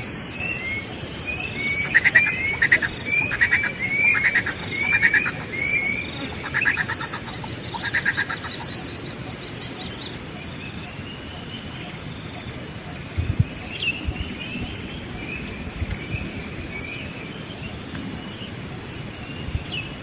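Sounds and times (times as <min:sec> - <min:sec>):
insect trilling: 0:00.0 - 0:16.7
birds whistling: 0:00.0 - 0:18.6.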